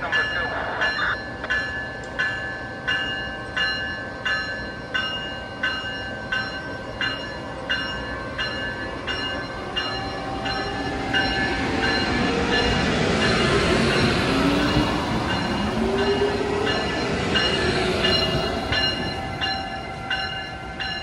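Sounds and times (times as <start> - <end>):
locomotive accelerating whine: 0.0 - 21.0
locomotive bell ringing: 0.0 - 21.0.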